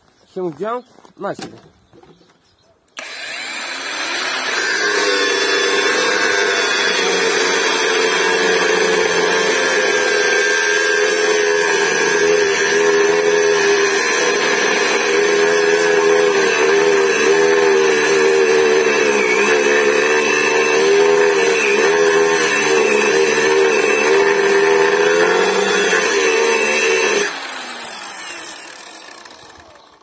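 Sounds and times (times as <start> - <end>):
disc grating on metal: 3.0 - 27.4
angle grinder motor whine: 3.0 - 30.0.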